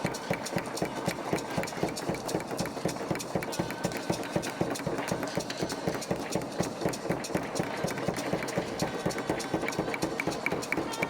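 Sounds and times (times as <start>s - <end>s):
rapid even knocking: 0.0s - 11.0s.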